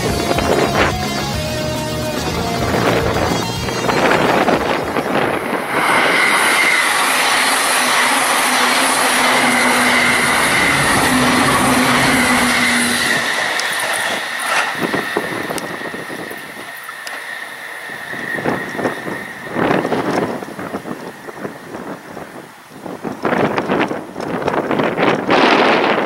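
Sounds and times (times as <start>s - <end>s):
high-pitched train whine: 0.0s - 26.0s
train wheel and rail noise: 0.0s - 26.0s.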